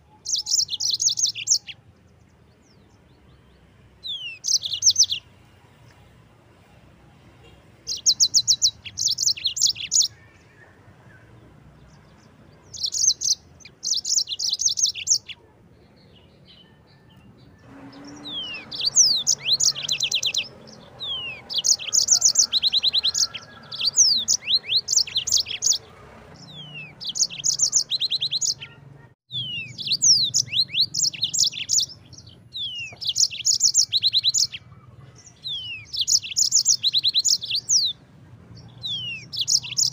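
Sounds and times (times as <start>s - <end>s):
canary singing trills: 0.0s - 6.0s, 6.6s - 39.9s.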